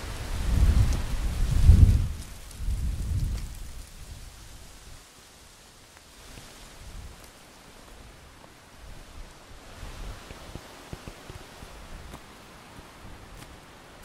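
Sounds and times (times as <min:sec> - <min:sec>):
wind buffeting microphone: 0:00.0 - 0:05.0, 0:06.2 - 0:07.2, 0:07.8 - 0:14.0
faint outdoor hiss: 0:00.0 - 0:14.0.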